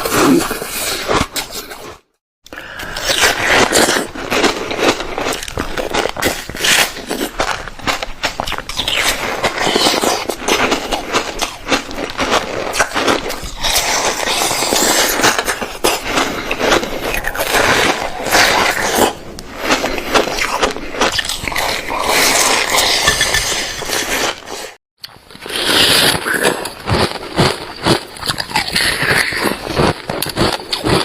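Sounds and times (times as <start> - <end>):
chewing crunchy ice: 0.0 - 31.0.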